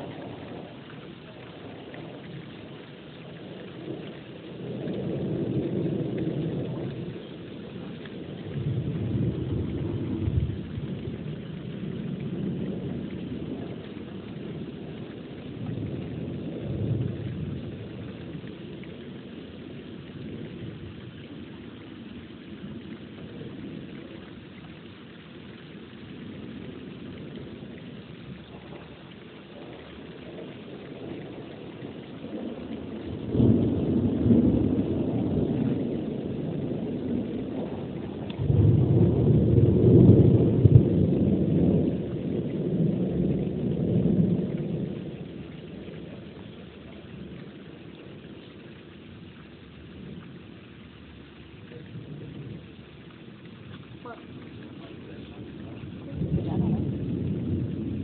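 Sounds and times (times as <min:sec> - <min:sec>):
thunder rumbling: 0:00.0 - 0:25.0, 0:25.8 - 0:50.5, 0:51.2 - 0:58.0
steady rain: 0:00.0 - 0:58.0.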